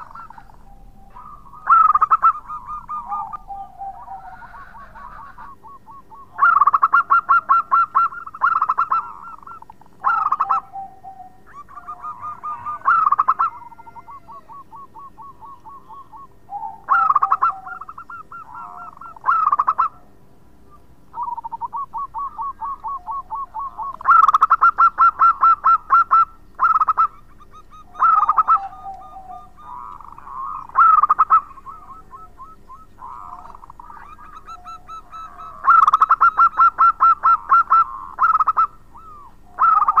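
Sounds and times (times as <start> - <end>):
dove staccato cooing: 0.0 - 40.0.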